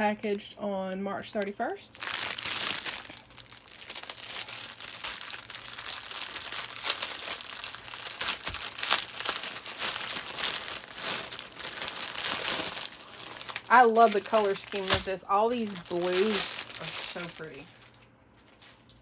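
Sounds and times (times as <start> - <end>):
plastic wrap crinkling: 1.3 - 19.0.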